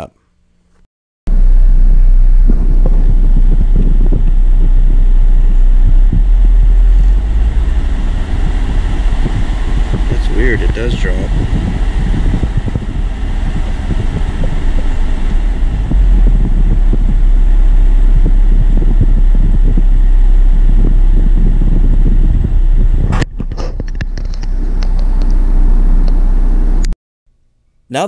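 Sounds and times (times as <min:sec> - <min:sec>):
car engine revving: 0:01.3 - 0:26.9.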